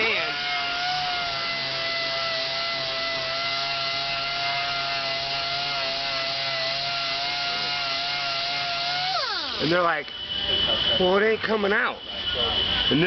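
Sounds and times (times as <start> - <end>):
orbital sander whining: 0.0 - 13.0.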